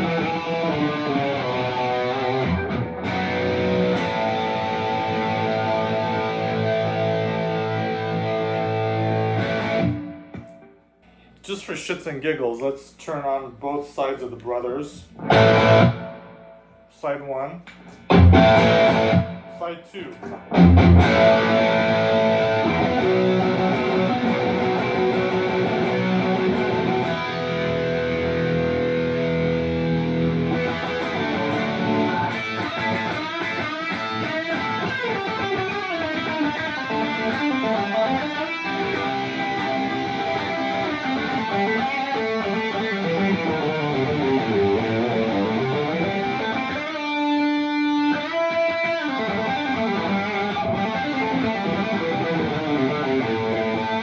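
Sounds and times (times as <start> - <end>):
overdriven electric guitar: 0.0 - 10.8, 15.2 - 16.7, 17.8 - 54.0.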